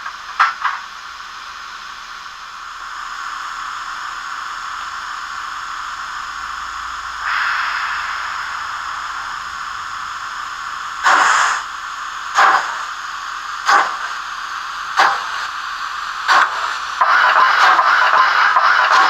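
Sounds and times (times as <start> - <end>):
model locomotive steam hiss: 0.0 - 19.0
steam exhaust chuffs: 0.0 - 19.0.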